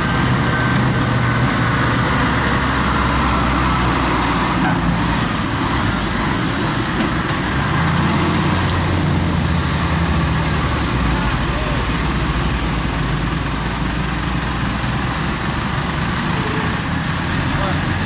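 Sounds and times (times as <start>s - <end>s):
engine approaching: 0.0s - 18.0s
heavy diesel trucks passing: 0.0s - 18.0s.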